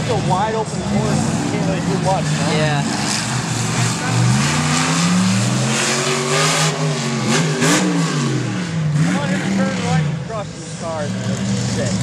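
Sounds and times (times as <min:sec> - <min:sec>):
truck engine revving hard: 0:00.0 - 0:12.0.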